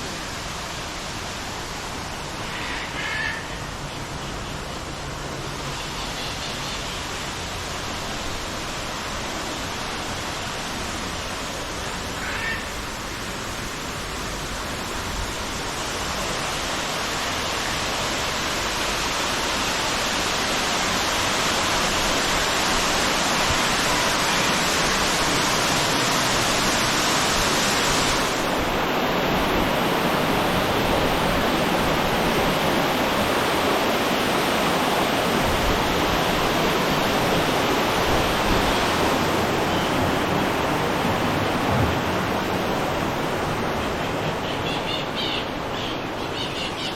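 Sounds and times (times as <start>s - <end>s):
rushing falling water: 0.0s - 46.9s.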